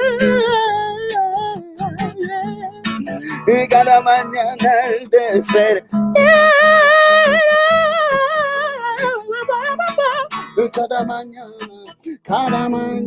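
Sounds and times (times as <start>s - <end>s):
acoustic guitar: 0.0s - 13.0s
man singing: 0.0s - 13.0s.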